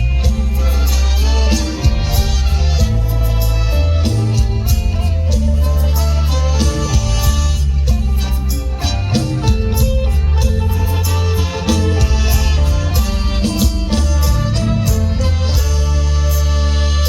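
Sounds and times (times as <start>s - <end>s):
band music with heavy bass: 0.0s - 17.0s
steady drum beat: 0.0s - 17.0s.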